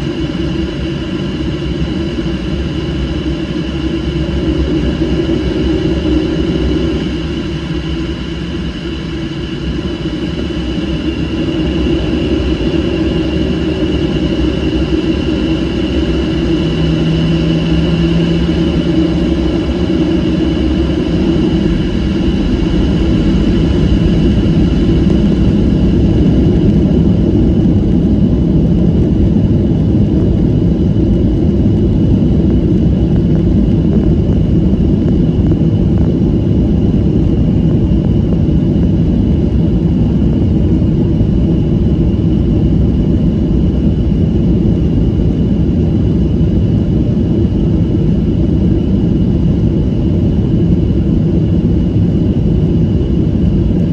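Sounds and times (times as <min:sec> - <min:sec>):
high engine whine: 0:00.0 - 0:53.9
jet engines rumbling: 0:00.0 - 0:53.9.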